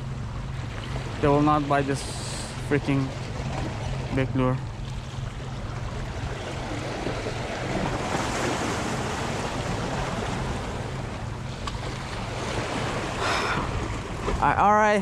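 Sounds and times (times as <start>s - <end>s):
waves splashing over rocks: 0.6s - 15.0s.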